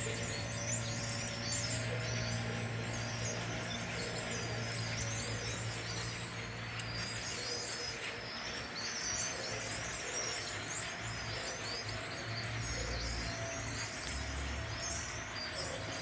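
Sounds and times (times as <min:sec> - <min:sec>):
flock of birds chirping: 0:00.0 - 0:16.0.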